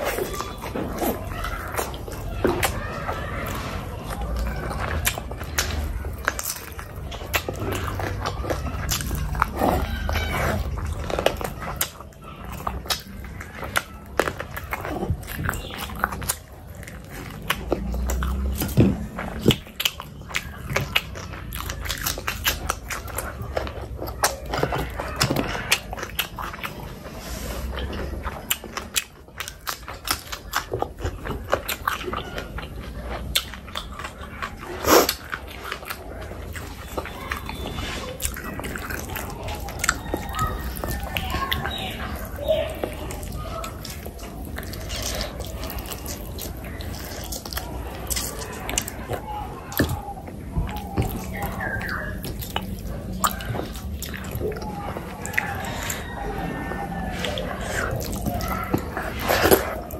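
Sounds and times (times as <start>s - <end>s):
person chewing and lip-smacking: 0.0s - 59.9s.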